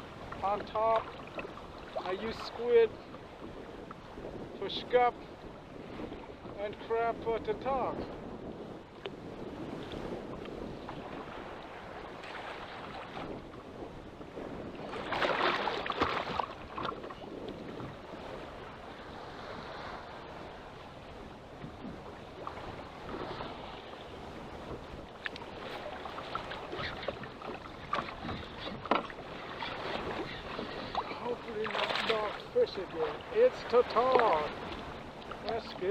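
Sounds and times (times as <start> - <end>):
waves washing against boat: 0.0 - 35.9
wind on microphone: 0.0 - 35.9.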